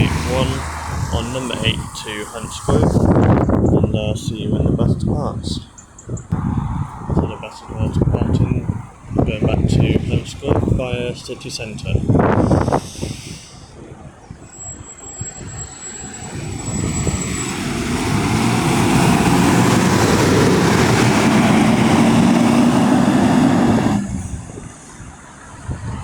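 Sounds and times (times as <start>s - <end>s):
bus diesel engine accelerating: 0.0s - 4.3s, 6.2s - 26.0s.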